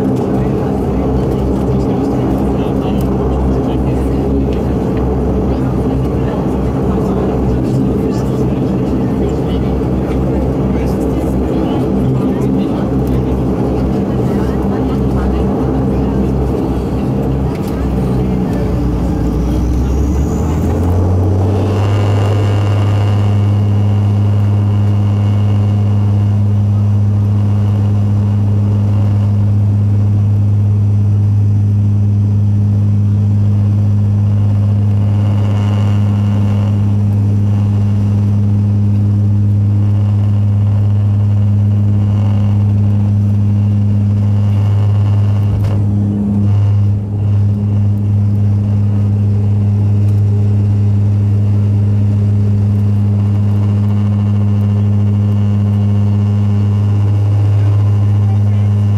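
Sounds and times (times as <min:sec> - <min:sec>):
turboprop engine drone: 0:00.0 - 0:58.9.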